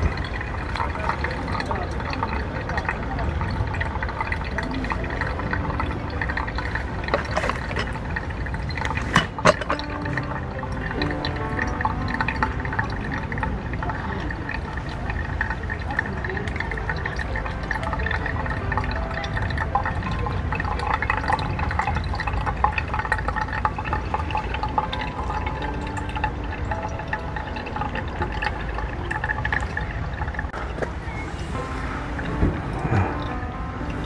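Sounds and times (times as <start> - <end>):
water pouring: 0.0 - 34.0.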